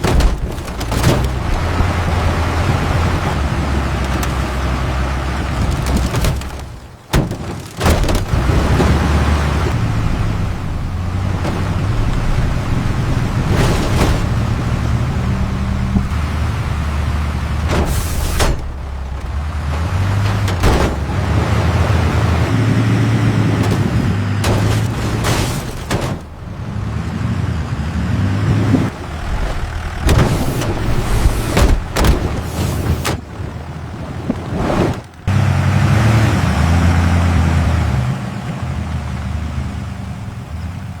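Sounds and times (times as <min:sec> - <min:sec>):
heavy truck engines rumbling: 0:00.0 - 0:41.0.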